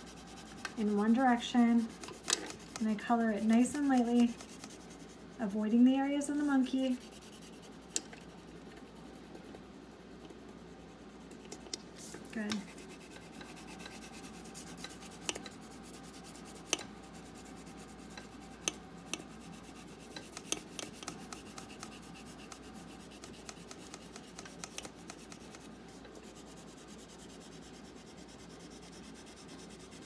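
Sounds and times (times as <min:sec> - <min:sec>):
crayon rubbing on paper: 0:00.0 - 0:07.9, 0:12.6 - 0:18.1, 0:19.1 - 0:30.0.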